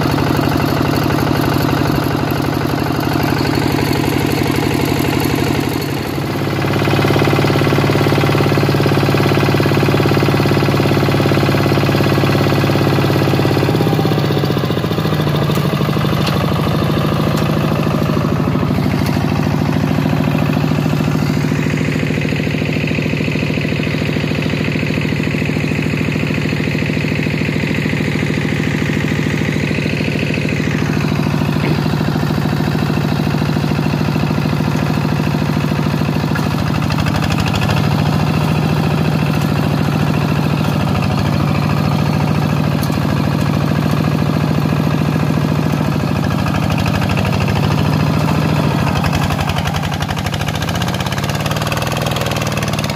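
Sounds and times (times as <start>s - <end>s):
diesel tractor engine running: 0.0s - 52.9s.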